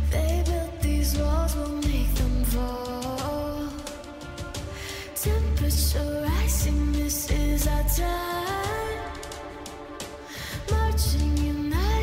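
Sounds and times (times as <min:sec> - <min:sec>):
heavy bass: 0:00.0 - 0:12.0
song with singing voice: 0:00.0 - 0:12.0.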